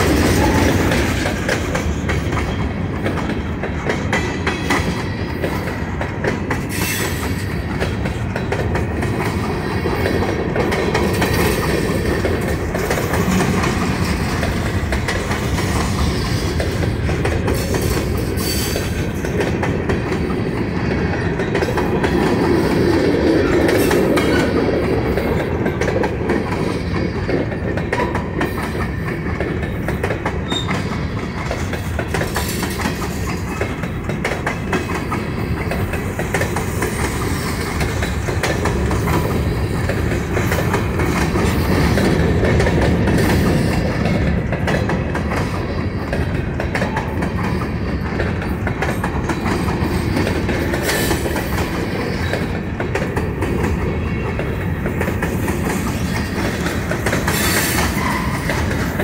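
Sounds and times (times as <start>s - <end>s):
railroad cars rolling past: 0.0s - 59.0s.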